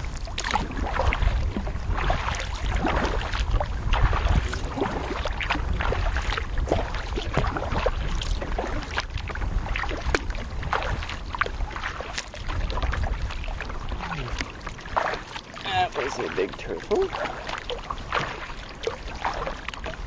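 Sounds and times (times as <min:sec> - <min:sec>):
paddle strokes splashing in water: 0:00.0 - 0:20.0
water dripping off paddle: 0:00.0 - 0:20.0.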